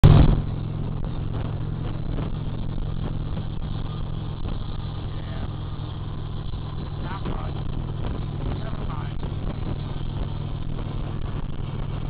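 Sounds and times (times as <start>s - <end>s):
motorcycle engine running: 0.0s - 12.0s
road noise: 0.0s - 12.0s
wind noise: 0.0s - 12.0s.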